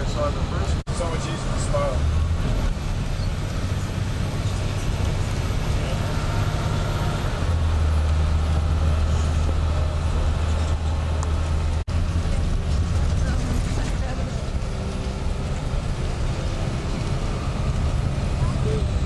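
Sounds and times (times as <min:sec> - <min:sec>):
bus engine and road drone: 0:00.0 - 0:19.0.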